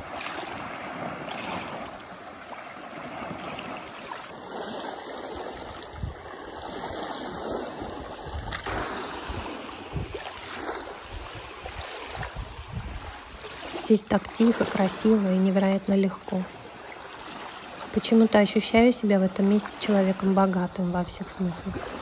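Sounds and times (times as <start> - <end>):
small waves lapping: 0.0 - 22.0.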